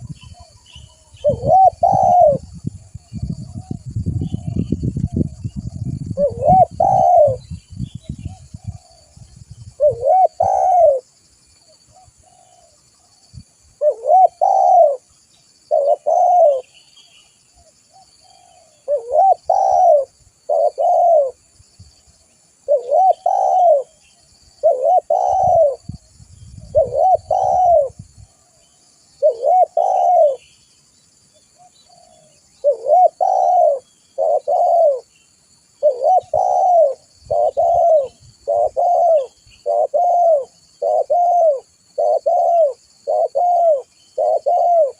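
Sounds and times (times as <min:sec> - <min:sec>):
dove cooing: 0:00.0 - 0:07.6, 0:08.2 - 0:11.1, 0:11.9 - 0:12.8, 0:13.8 - 0:15.1, 0:15.7 - 0:16.8, 0:17.6 - 0:21.5, 0:22.6 - 0:24.0, 0:24.6 - 0:26.0, 0:26.6 - 0:30.5, 0:31.6 - 0:35.1, 0:35.8 - 0:44.9
small birds chirping faintly: 0:00.0 - 0:44.9.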